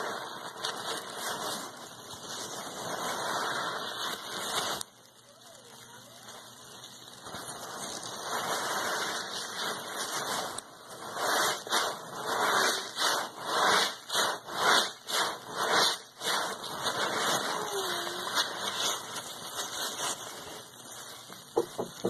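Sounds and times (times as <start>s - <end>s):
wet foamy hiss: 0.0s - 22.0s.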